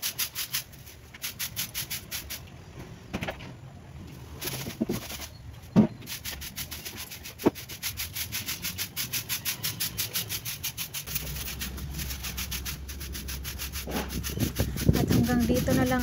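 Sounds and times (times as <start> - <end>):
broom sweeping gritty floor: 0.0 - 2.5, 4.2 - 16.0.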